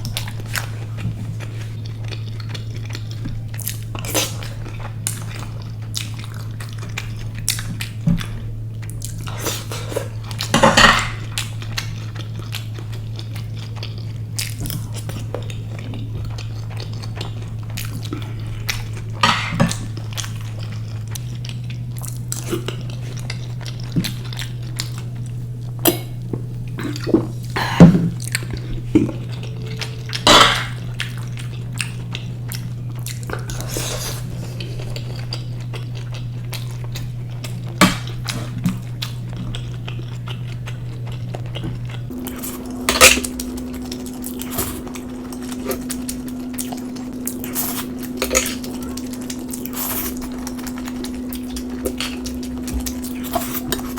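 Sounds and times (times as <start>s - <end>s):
chewing: 0.0s - 53.9s
steady low hum: 0.0s - 53.9s.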